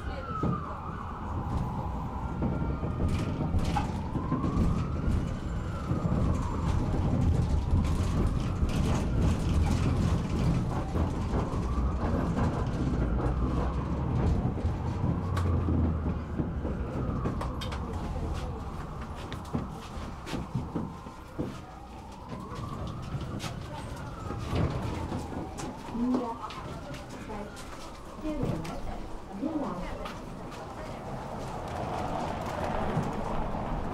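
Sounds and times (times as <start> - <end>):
siren wailing: 0.0 - 33.9
tram rumbling: 0.0 - 33.9.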